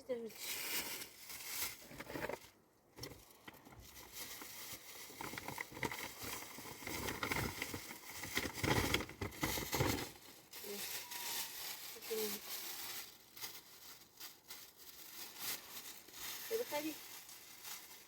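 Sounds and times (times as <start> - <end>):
plastic sheeting crinkling: 0.0 - 2.2, 3.2 - 18.0.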